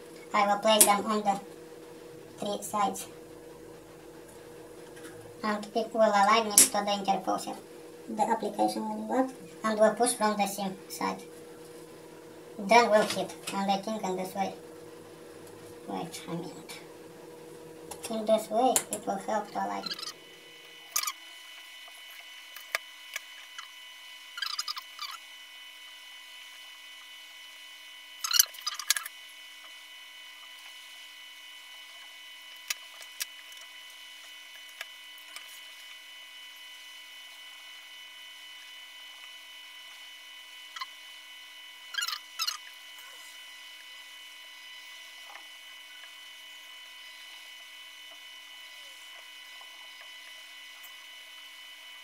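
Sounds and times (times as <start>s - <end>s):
faint electronic whine: 0.0s - 52.0s.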